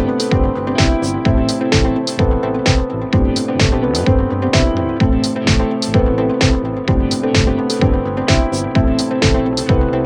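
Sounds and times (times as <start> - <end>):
kick drum and hi-hats beat: 0.0 - 10.0.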